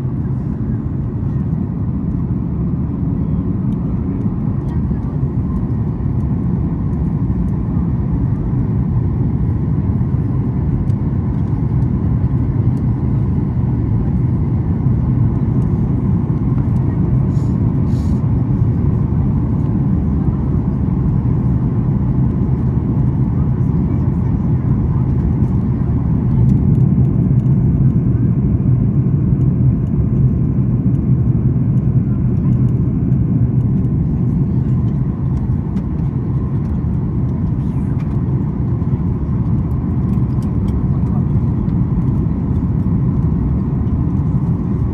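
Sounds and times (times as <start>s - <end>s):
airplane cabin drone: 0.0s - 44.9s.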